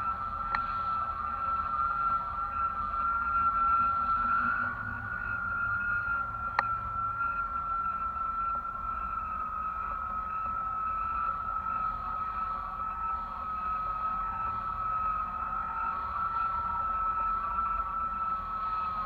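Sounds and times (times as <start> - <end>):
high whistling whine: 0.0 - 19.0.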